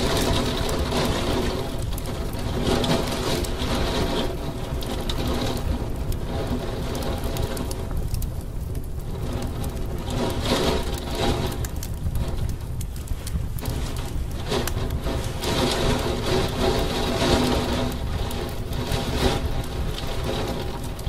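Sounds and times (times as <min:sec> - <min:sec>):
heavy rain on a window: 0:00.0 - 0:21.0.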